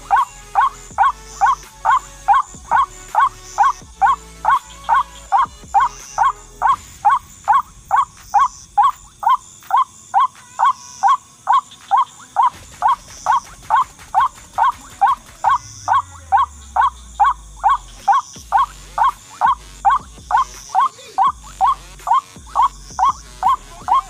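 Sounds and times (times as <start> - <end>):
bird call through loudspeaker: 0.0 - 24.0.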